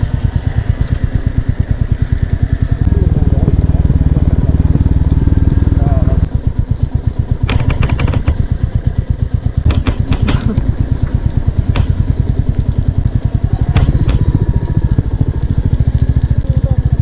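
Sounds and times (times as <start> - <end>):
motorcycle engine thumping: 0.0 - 17.0.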